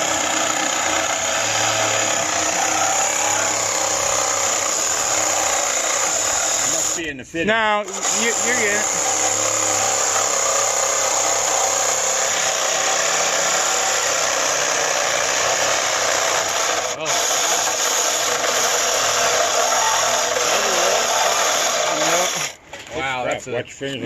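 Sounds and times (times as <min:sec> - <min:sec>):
power saw cutting metal tubing: 0:00.0 - 0:07.1, 0:07.8 - 0:22.6.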